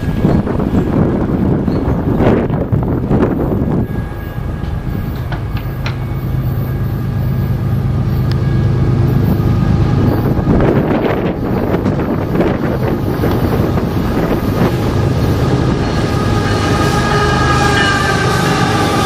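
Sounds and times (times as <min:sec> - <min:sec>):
wind buffeting microphone: 0:00.0 - 0:07.1, 0:07.9 - 0:19.0
distant engine drone: 0:02.2 - 0:19.0.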